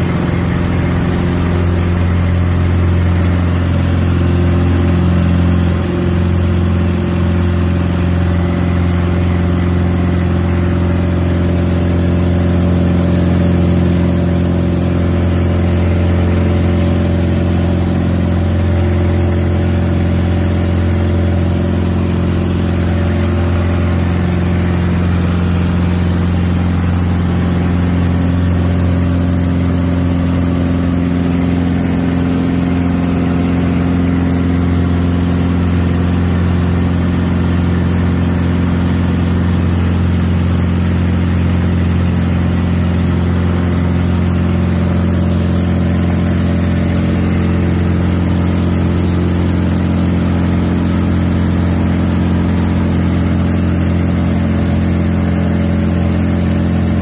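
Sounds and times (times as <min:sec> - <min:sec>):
light aircraft engine drone: 0:00.0 - 0:57.0.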